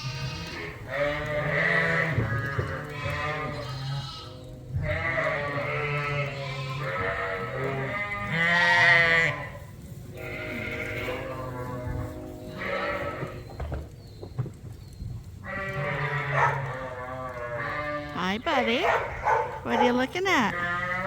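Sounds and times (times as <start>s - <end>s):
sheep and lambs bleating: 0.0s - 13.6s, 15.4s - 21.0s.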